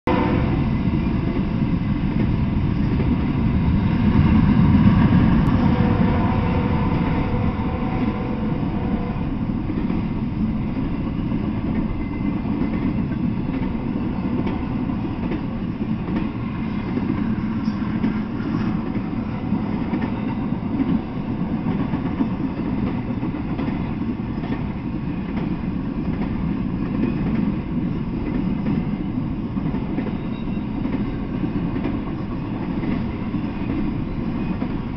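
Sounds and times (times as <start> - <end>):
freight train rolling past: 0.1 - 34.9
wheels clattering on rails: 5.4 - 34.9.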